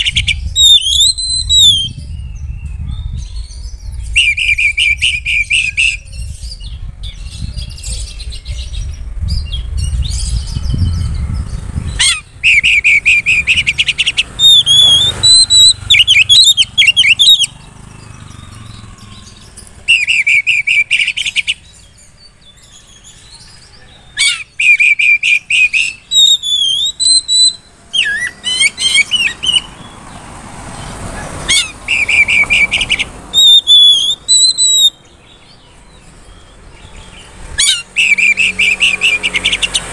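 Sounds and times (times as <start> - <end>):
bird singing trills and whistles: 0.0 - 30.2, 31.5 - 39.9.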